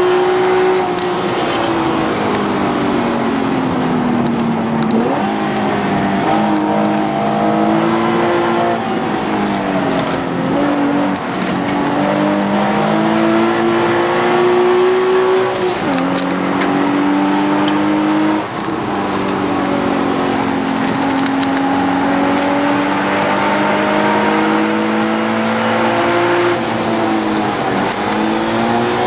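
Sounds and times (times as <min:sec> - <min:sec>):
car engine accelerating: 0:00.0 - 0:29.0
road and wind noise: 0:00.0 - 0:29.0.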